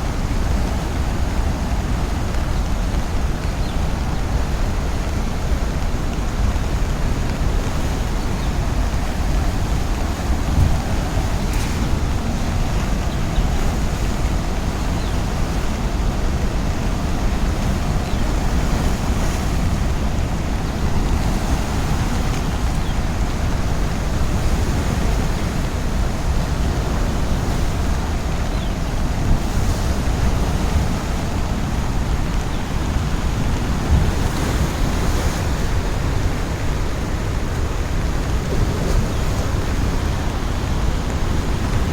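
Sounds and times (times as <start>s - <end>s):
river rushing in flood: 0.0s - 41.9s.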